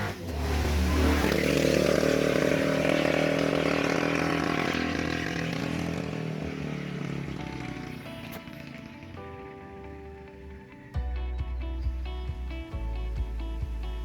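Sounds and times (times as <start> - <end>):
deep drone: 0.0 - 14.0
vehicle engine running: 0.0 - 14.0.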